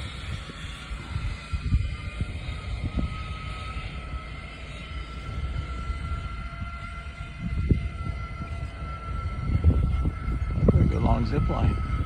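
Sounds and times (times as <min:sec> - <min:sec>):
wind rumbling on microphone: 0:00.0 - 0:12.0
zip line trolley whining on cable: 0:00.0 - 0:12.0.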